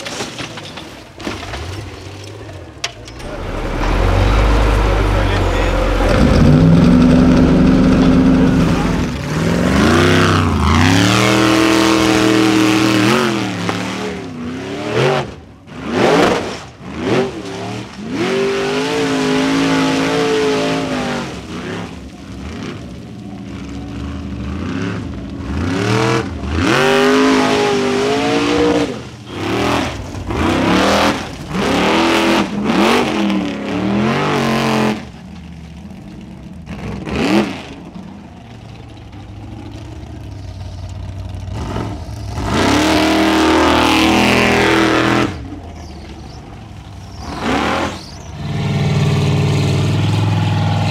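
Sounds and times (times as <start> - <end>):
buggy engines revving: 1.0 - 50.9.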